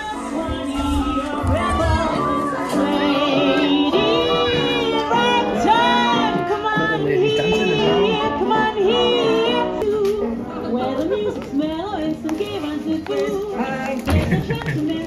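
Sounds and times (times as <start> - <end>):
woman singing into microphone: 0.0 - 15.0.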